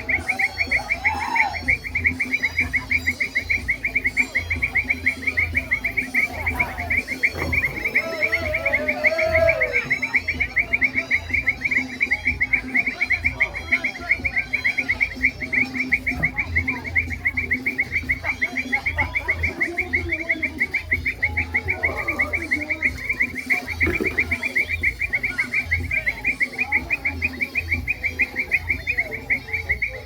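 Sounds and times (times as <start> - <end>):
bird calls: 0.0 - 30.0
rapid pulsing animal call: 0.0 - 30.0.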